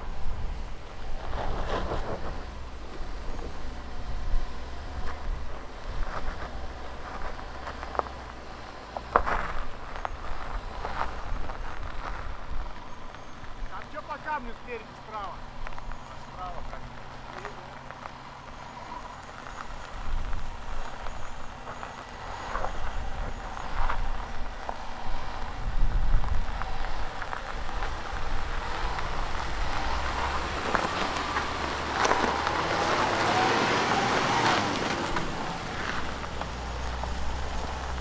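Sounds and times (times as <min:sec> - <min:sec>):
low engine rumble: 0:00.0 - 0:38.0
tyres crunching over gravel: 0:00.0 - 0:38.0.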